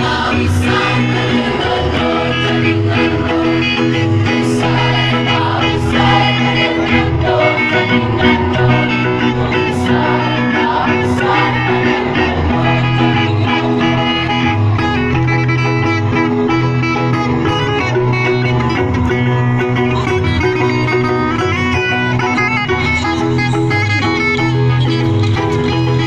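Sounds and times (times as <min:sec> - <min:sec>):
instrumental music with bass line: 0:00.0 - 0:26.0.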